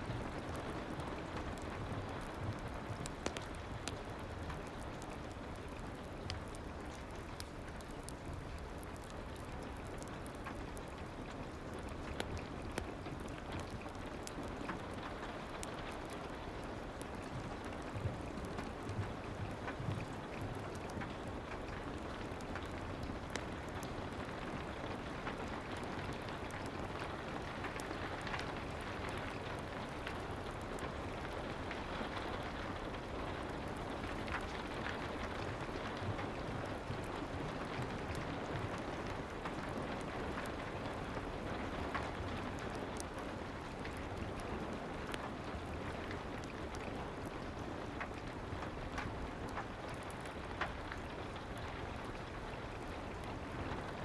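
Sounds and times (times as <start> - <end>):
soft rain hiss: 0.0 - 54.0.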